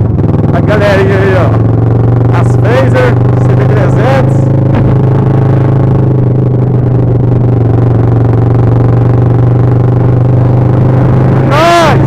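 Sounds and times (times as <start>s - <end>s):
loud motorcycle engine drone: 0.0s - 12.0s.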